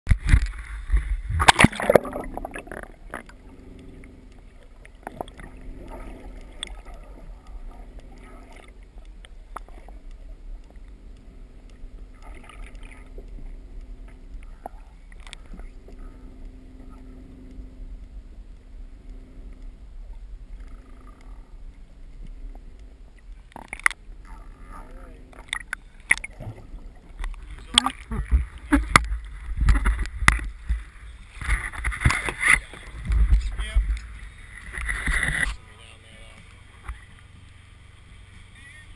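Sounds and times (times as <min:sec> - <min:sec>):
muffled underwater hum: 0:00.1 - 0:38.9
water splashing: 0:00.1 - 0:38.9.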